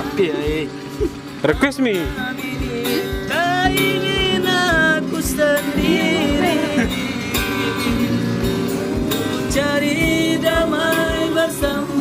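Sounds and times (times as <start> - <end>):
low thumping beat: 0.0 - 12.0
strummed acoustic guitar: 0.0 - 12.0
person singing: 1.9 - 12.0.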